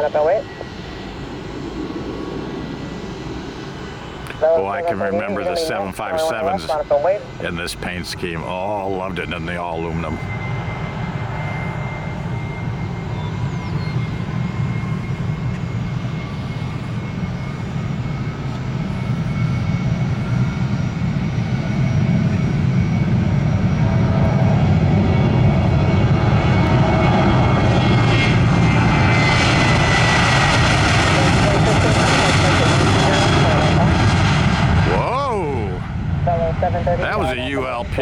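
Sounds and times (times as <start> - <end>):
jet engines at takeoff: 0.0 - 38.0.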